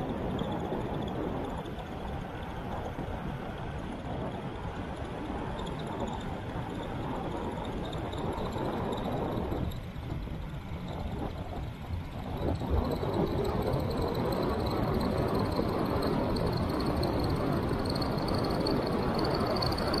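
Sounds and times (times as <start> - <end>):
bike tyres rolling on asphalt: 0.0 - 20.0
wind rushing over microphone: 0.0 - 20.0.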